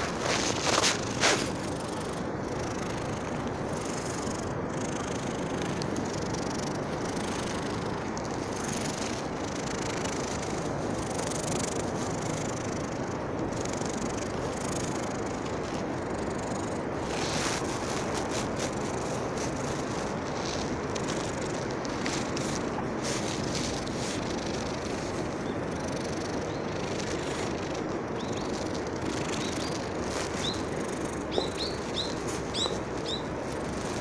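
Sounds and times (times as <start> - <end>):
soft rustles: 0.0 - 12.8, 13.4 - 34.0
rushing outdoor background noise: 0.0 - 34.0
small bird chirping: 0.0 - 34.0.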